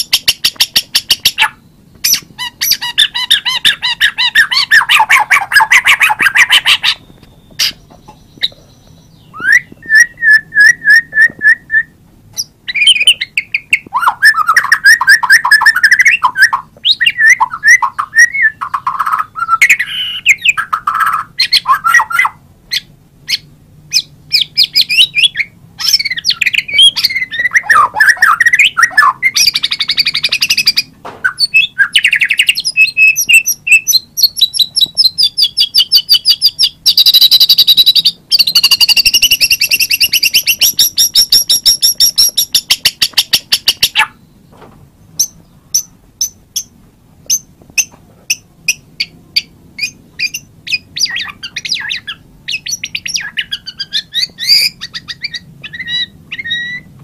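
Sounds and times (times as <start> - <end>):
bird singing whistled phrases: 0.1 - 44.3, 49.0 - 56.9.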